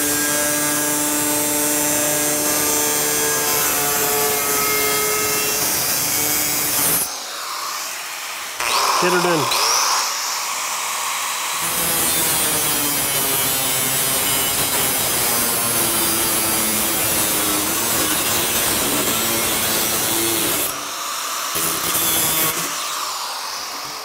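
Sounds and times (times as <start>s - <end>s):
angle grinder cutting metal: 0.0s - 24.0s.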